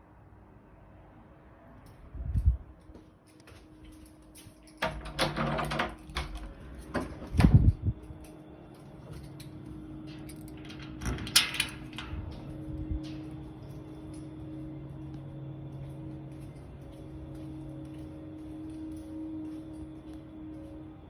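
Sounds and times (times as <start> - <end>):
low hum with two tones: 3.5 - 21.0.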